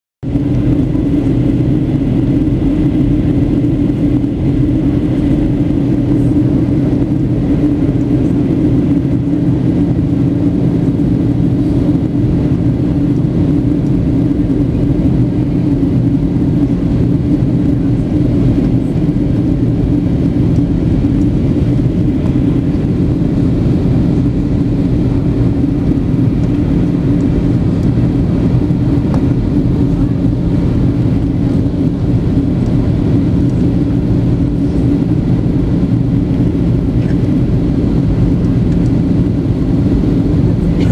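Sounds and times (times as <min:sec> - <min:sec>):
airplane engines rumbling in flight: 0:00.2 - 0:40.9
constant low hum: 0:00.2 - 0:40.9.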